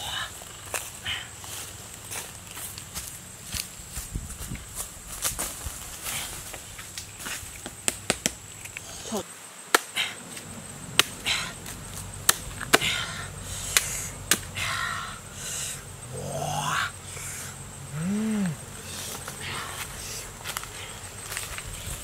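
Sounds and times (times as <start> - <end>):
rustling of dry leaves: 0.0 - 22.0.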